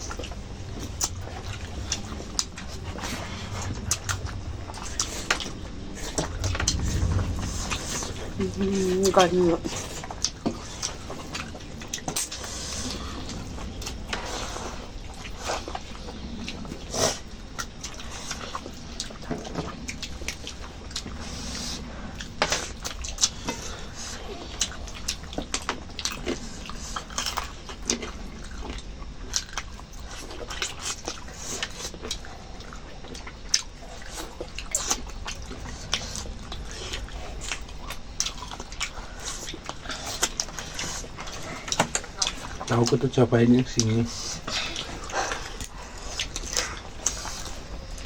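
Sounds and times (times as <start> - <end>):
wet chewing: 0.0 - 48.0.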